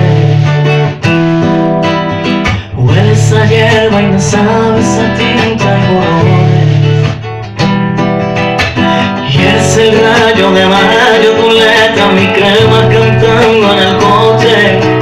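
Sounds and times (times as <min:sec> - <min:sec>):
man singing: 0:00.0 - 0:01.1, 0:02.5 - 0:07.3, 0:08.8 - 0:15.0
acoustic guitar strumming: 0:00.0 - 0:15.0.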